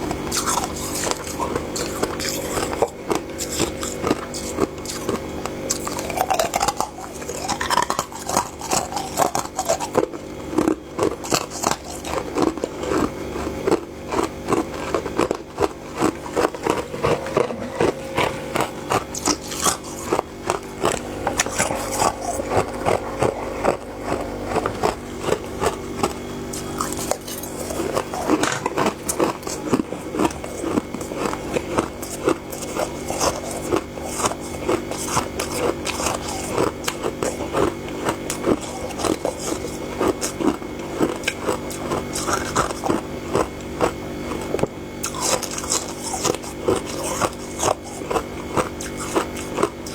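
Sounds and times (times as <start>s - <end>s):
crunchy chewing of frost: 0.0s - 49.9s
faint steady hum: 0.0s - 49.9s.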